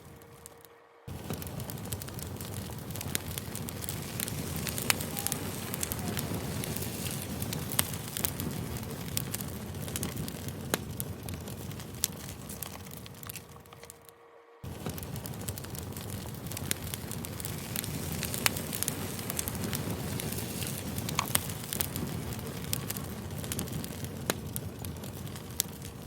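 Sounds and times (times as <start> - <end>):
burning wood crackling and popping: 0.0 - 26.0
flames rushing: 0.0 - 26.0.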